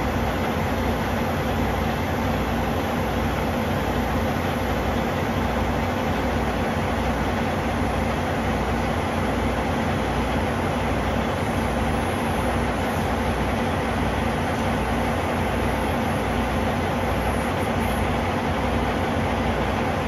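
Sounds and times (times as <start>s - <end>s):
truck diesel engine idling: 0.0s - 20.0s.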